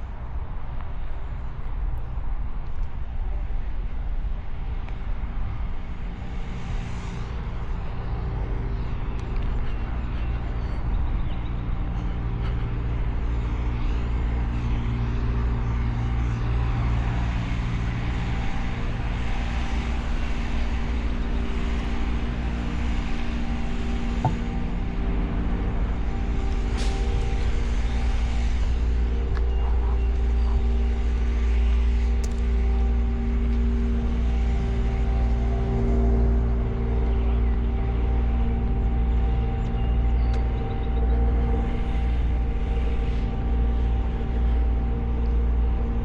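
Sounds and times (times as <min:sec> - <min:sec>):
road and wind noise: 0:00.0 - 0:46.0
vehicle engine droning: 0:05.2 - 0:46.0.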